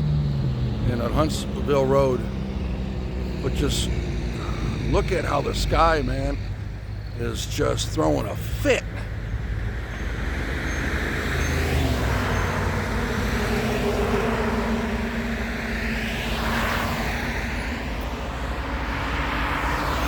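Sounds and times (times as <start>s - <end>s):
road traffic: 0.0s - 20.0s
vehicle passing: 0.0s - 20.0s.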